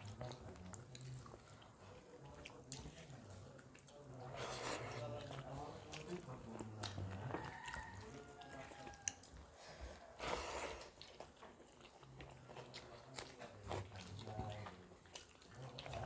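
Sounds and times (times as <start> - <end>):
people chewing: 0.0 - 16.0.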